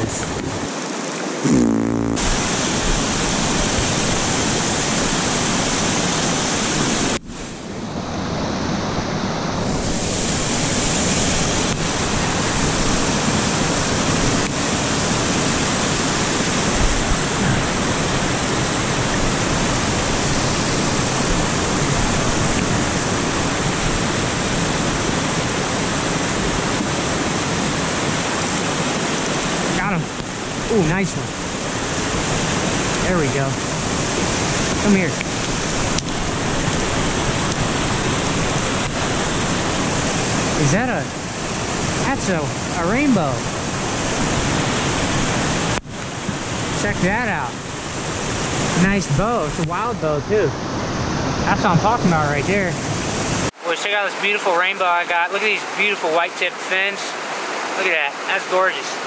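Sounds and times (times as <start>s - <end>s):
waterfall rushing water: 0.0s - 59.0s.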